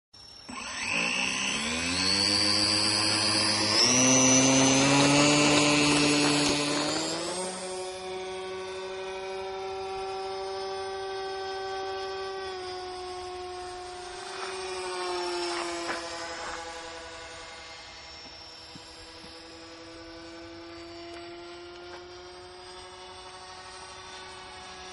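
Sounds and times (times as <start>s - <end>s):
model plane engine buzzing: 0.2s - 24.9s.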